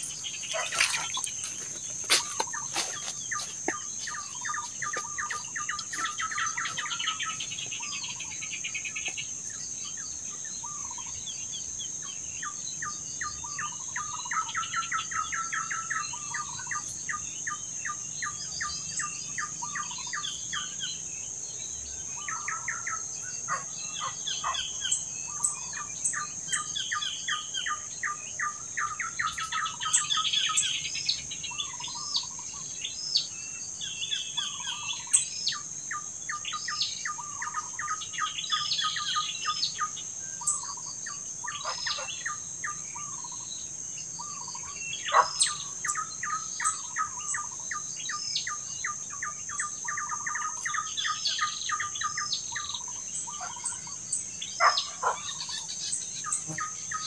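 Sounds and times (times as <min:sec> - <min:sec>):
high insect buzz: 0:00.0 - 0:11.1, 0:15.9 - 0:57.0
small birds chirping: 0:00.0 - 0:57.0.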